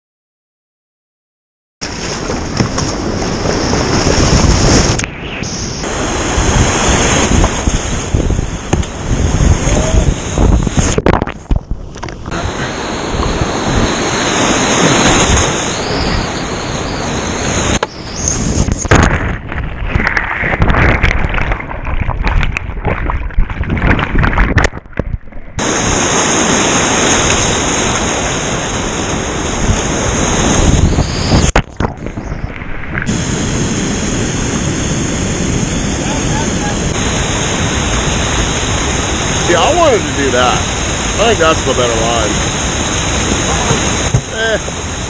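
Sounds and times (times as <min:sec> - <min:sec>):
rushing whitewater: 0:01.8 - 0:11.0, 0:12.3 - 0:22.4, 0:25.6 - 0:45.0
wind buffeting microphone: 0:01.9 - 0:45.0.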